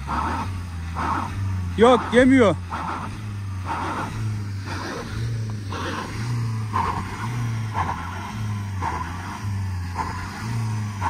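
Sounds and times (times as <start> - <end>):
car engine revving: 0.0 - 11.0
wheels spinning in snow: 0.0 - 11.0.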